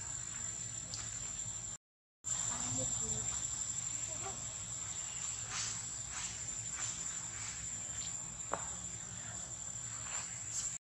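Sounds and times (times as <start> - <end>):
insects droning: 0.0 - 10.8.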